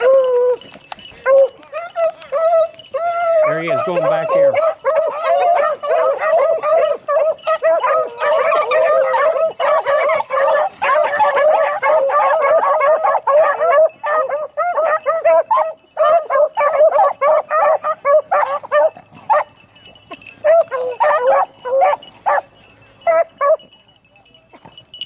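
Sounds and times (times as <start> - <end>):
pack of dogs baying: 0.0 - 25.0.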